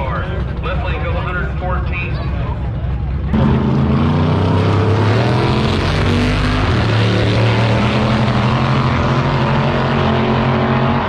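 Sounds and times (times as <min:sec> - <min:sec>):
drag racing car engines rumbling: 0:00.0 - 0:11.0.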